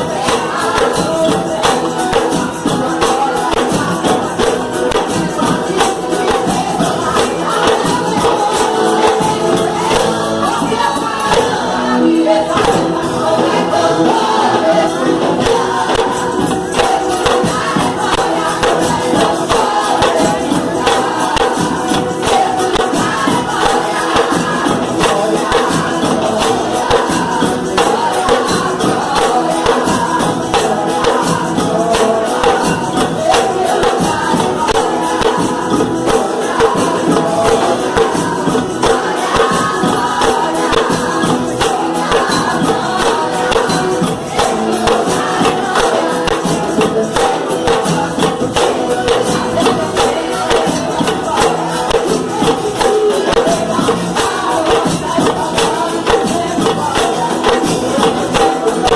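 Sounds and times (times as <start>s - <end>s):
percussion group playing fast beat: 0.0s - 58.9s
voices singing: 0.0s - 58.9s.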